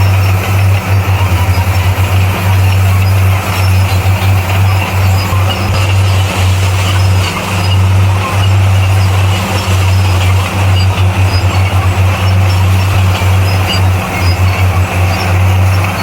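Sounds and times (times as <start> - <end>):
heavy machine engine droning: 0.0 - 16.0.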